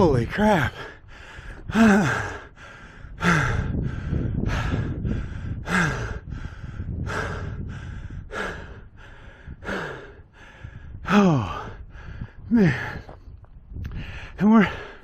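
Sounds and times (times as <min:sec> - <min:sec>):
man panting heavily: 0:00.0 - 0:15.0.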